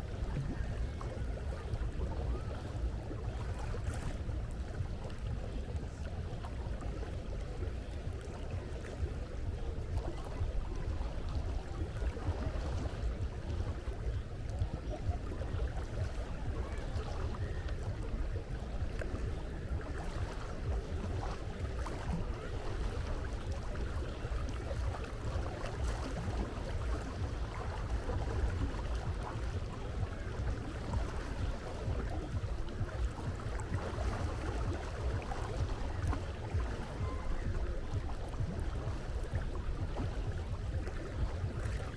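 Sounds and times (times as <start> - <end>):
low constant rumble: 0.0 - 41.9
sea water lapping: 0.0 - 41.9.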